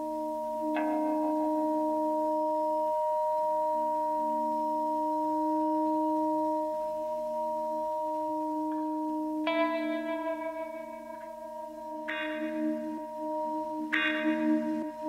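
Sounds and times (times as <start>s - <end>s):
long held chord tones: 0.0s - 15.0s.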